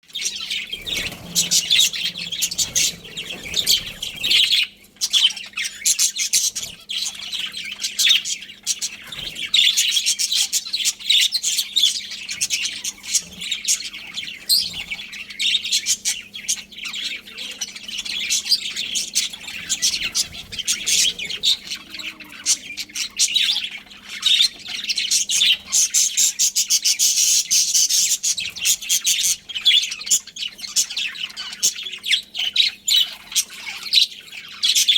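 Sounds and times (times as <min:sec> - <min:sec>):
budgerigars chirping: 0:00.1 - 0:34.9.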